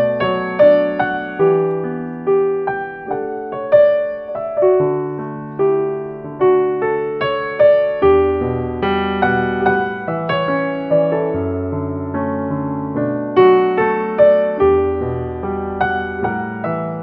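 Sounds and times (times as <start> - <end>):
slow gentle keyboard tune: 0.0 - 17.0.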